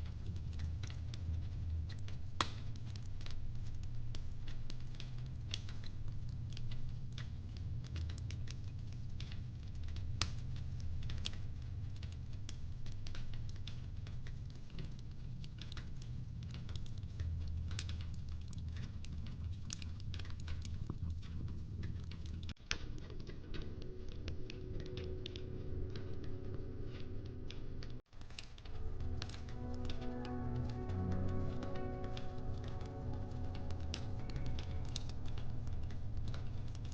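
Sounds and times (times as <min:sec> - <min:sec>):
burning wood popping and snapping: 0:00.0 - 0:26.0, 0:27.4 - 0:36.9
low rumble of fire: 0:00.0 - 0:36.9.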